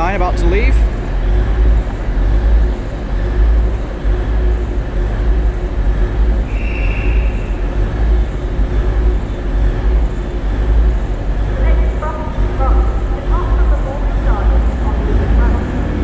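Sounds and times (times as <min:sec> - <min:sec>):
train diesel engines rumbling: 0:00.0 - 0:16.0.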